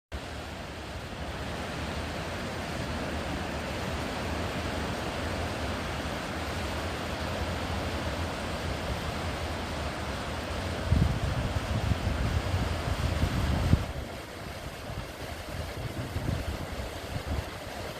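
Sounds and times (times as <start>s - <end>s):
surf washing onto beach: 0.2s - 17.9s.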